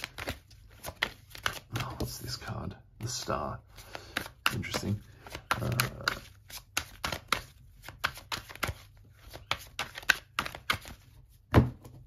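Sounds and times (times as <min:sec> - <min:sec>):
cards being shuffled: 0:00.0 - 0:02.3, 0:03.0 - 0:11.4.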